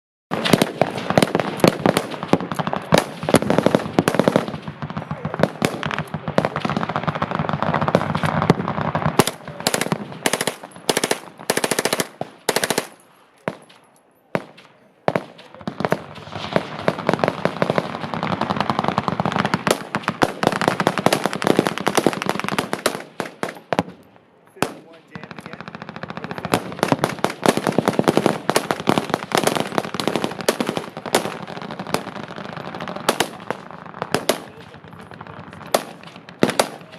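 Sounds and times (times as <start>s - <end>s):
automatic machine-gun fire: 0.3s - 13.6s, 15.1s - 23.8s, 24.6s - 36.9s.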